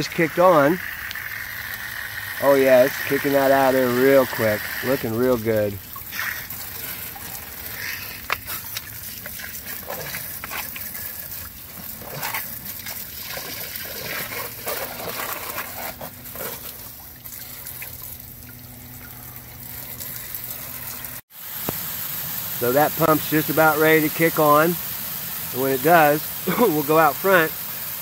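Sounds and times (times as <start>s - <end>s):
hose water splashing into basin: 0.0s - 28.0s.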